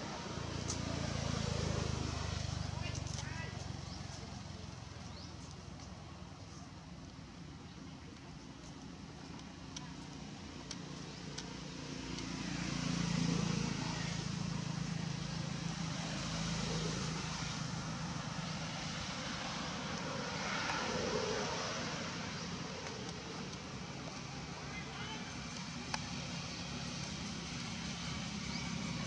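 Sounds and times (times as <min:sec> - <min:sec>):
distant motor engine droning: 0:00.0 - 0:29.0.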